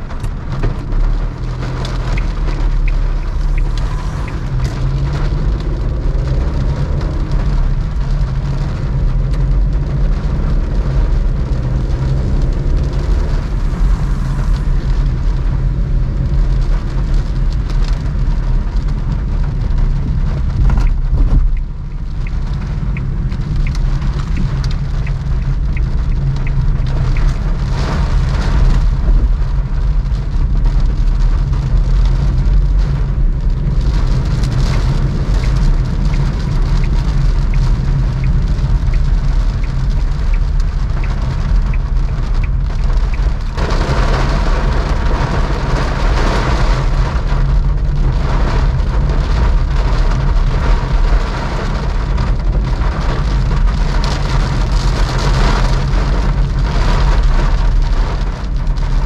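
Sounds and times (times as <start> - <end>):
car engine and tyres humming: 0.0 - 59.0
rain pattering on car: 0.0 - 59.0.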